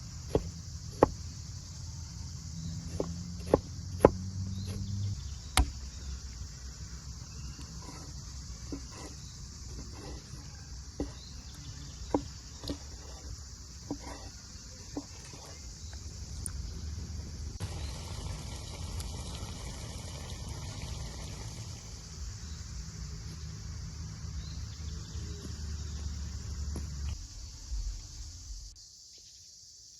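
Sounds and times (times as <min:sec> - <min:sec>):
crickets chirring: 0:00.0 - 0:29.9.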